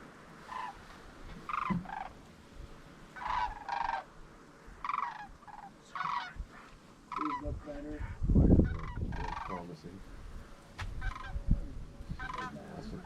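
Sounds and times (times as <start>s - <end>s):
cranes rattling calls: 0.0s - 13.0s.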